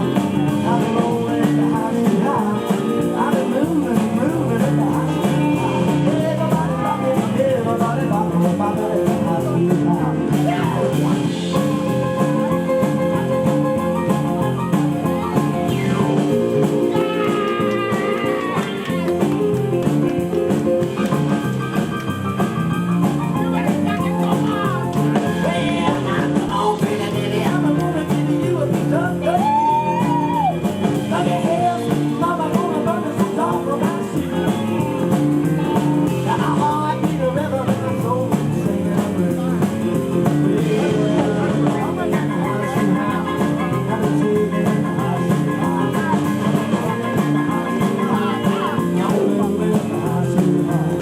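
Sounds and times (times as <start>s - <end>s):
live rockabilly band with electric guitar: 0.0s - 51.0s.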